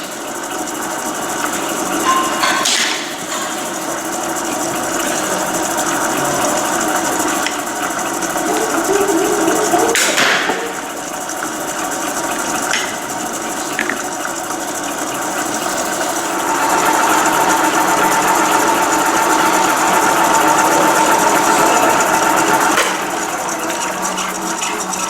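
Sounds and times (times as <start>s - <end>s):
pillar drill humming and whining: 0.0s - 25.0s.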